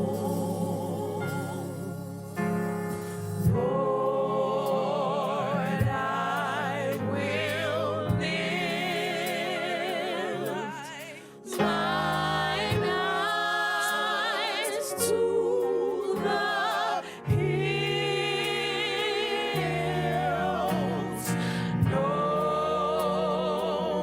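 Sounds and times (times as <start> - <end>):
gospel worship song: 0.0 - 24.0.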